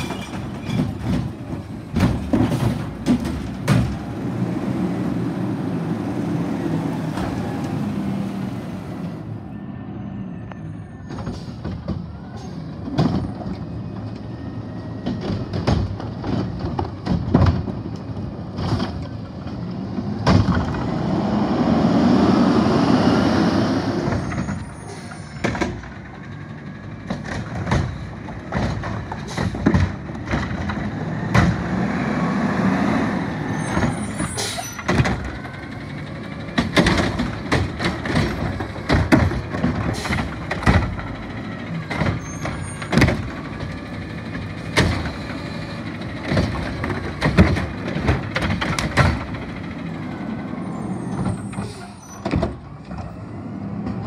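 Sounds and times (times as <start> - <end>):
garbage truck engine and hydraulics: 0.0 - 54.0.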